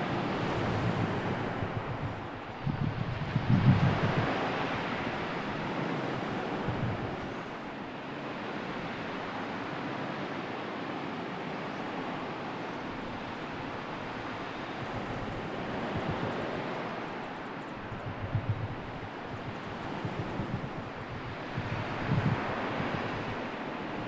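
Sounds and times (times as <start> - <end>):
sea surf washing: 0.0 - 24.0
wind: 0.0 - 24.0.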